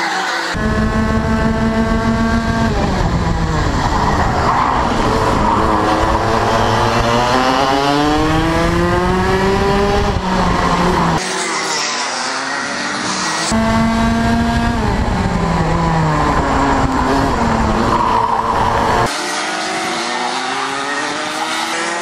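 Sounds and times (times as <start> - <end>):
kart engine revving: 0.0 - 22.0.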